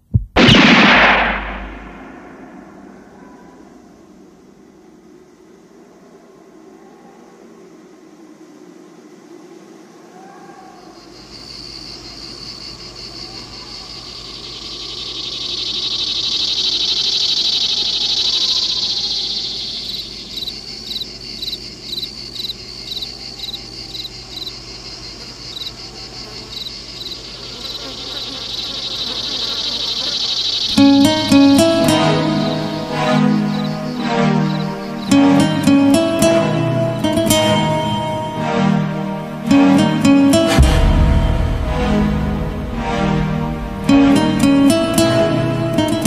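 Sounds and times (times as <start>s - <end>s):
shrill insect chirring: 1.7s - 42.0s, 42.8s - 46.0s.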